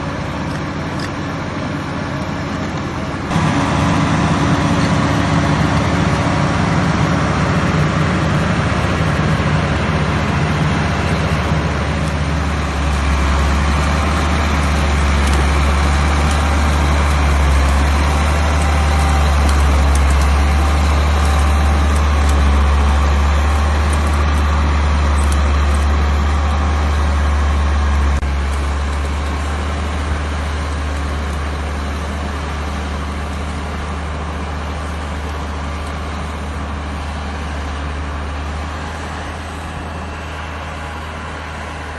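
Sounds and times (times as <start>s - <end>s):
heavy machine engine rumbling: 0.0s - 41.9s.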